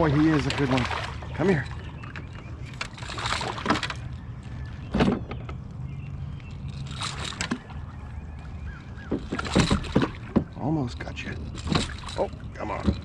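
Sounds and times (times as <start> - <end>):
low rumble of wind or water: 0.0 - 13.0.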